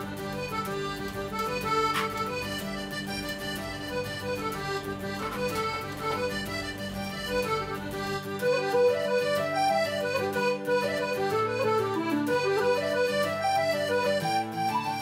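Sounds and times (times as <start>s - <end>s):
solo accordion tune: 0.0s - 15.0s.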